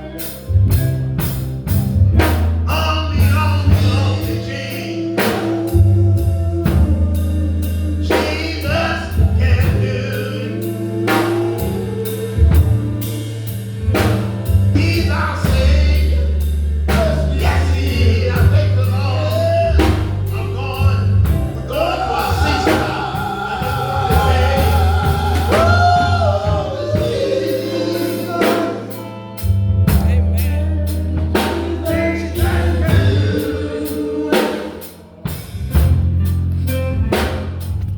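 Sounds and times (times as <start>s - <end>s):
gospel group singing: 0.0s - 36.0s
bass: 0.0s - 37.9s
drum kit beat: 0.0s - 37.9s
guitar: 0.0s - 37.9s
keyboard: 0.0s - 37.9s.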